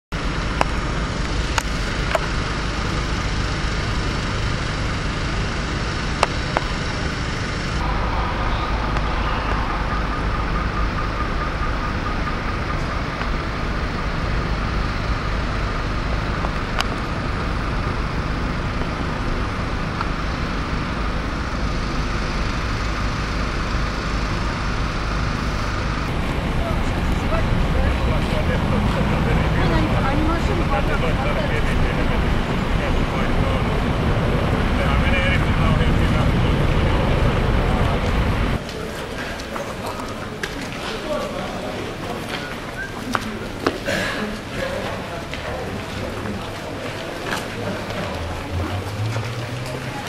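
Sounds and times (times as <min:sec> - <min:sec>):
traffic rumble: 0:00.1 - 0:50.0.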